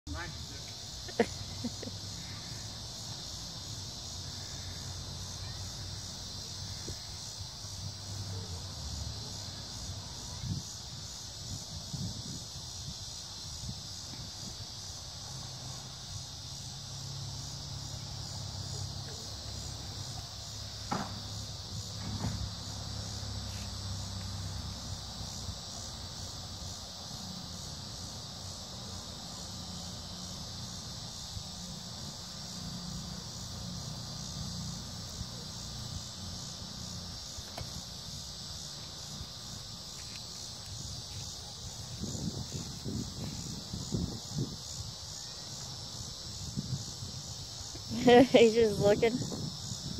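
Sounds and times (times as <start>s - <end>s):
insects chirring: 0.1s - 49.9s.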